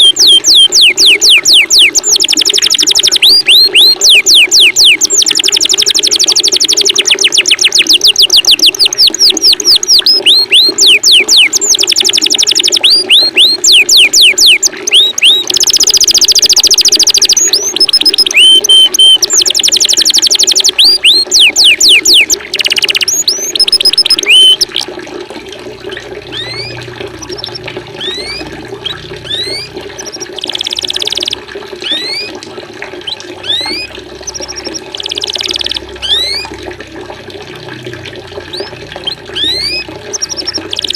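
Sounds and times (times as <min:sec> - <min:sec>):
songbird trills and chirps: 0:00.0 - 0:24.8, 0:26.3 - 0:32.3, 0:33.0 - 0:36.5, 0:38.6 - 0:40.9
running water: 0:00.0 - 0:40.9.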